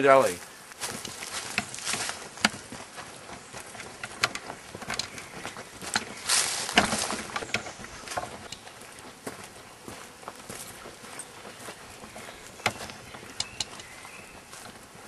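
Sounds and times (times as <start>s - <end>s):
footsteps on dry leaves: 0.0s - 15.0s
leaves rustling: 0.0s - 15.0s.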